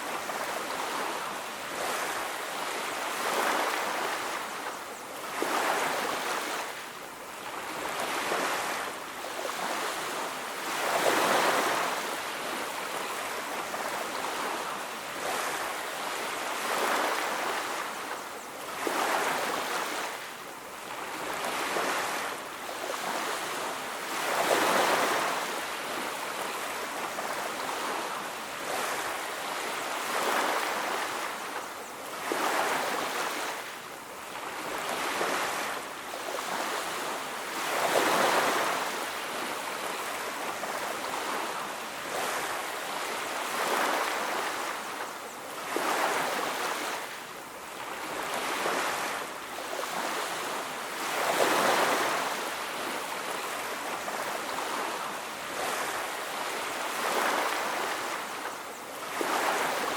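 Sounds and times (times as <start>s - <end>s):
waves washing onto beach: 0.0s - 59.9s.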